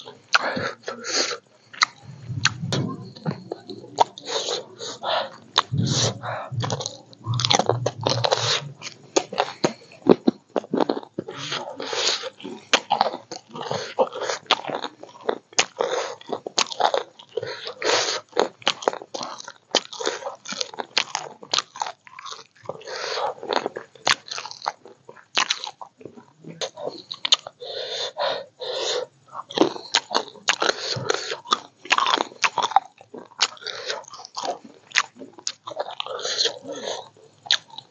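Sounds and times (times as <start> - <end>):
person chewing crunchy food: 0.0 - 37.9.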